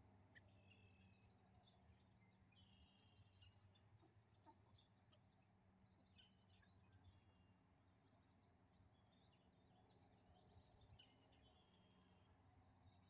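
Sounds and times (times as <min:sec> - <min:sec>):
faint bird chirps and trills: 0:00.1 - 0:13.0.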